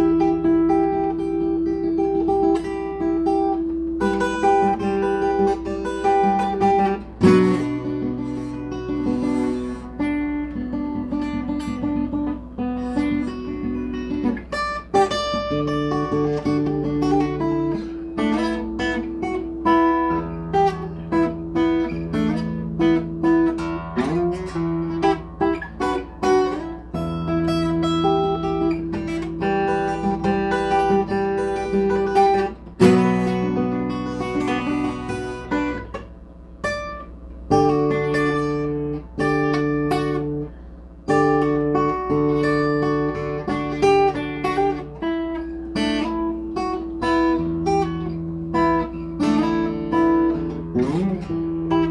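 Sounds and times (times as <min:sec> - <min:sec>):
guitar playing: 0:00.0 - 0:51.9.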